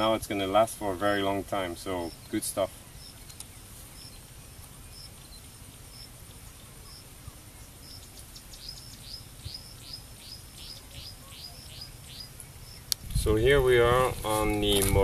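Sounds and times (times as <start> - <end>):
insect trill: 0.0 - 13.6
bird calling: 0.8 - 13.0.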